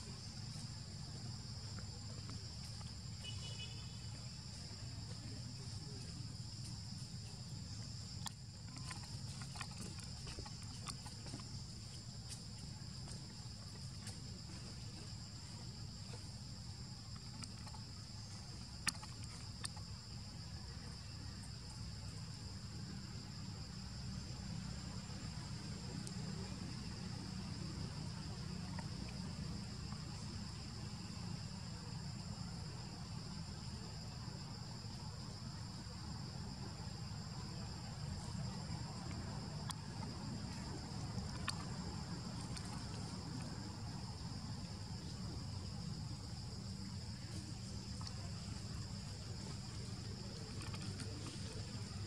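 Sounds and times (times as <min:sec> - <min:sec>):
high-pitched insect chorus: 0:00.0 - 0:52.0.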